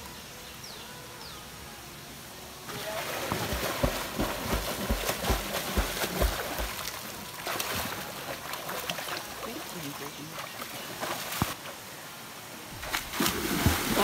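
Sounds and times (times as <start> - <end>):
water flowing and splashing: 1.9 - 14.0.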